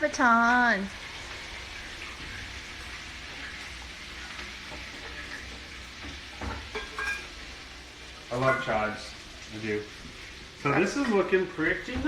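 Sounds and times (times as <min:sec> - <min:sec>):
capers sizzling in hot oil: 0:00.0 - 0:12.0.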